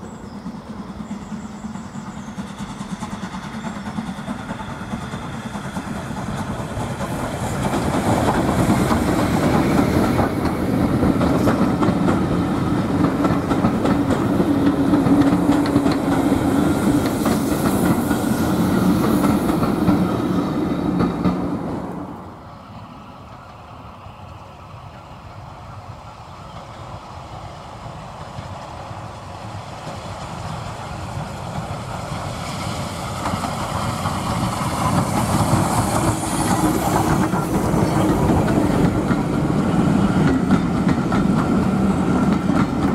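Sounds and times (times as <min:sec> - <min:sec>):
steam locomotive approaching: 0:00.0 - 0:42.9
steam locomotive passing: 0:00.0 - 0:42.9
train wheels clattering: 0:00.9 - 0:22.1, 0:28.1 - 0:42.9.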